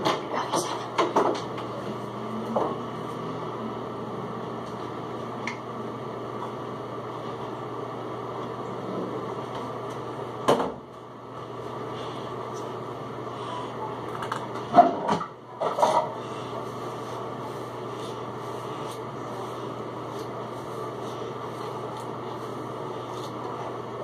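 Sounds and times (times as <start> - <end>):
mechanical hum and hiss: 0.0 - 24.0.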